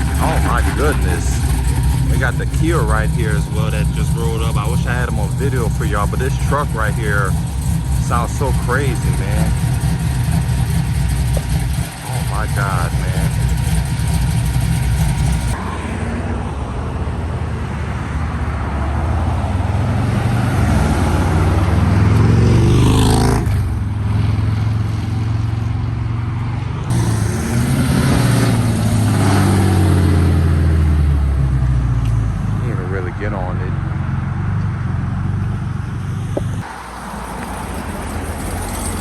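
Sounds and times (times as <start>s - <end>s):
vehicle engine accelerating: 0.0s - 39.0s.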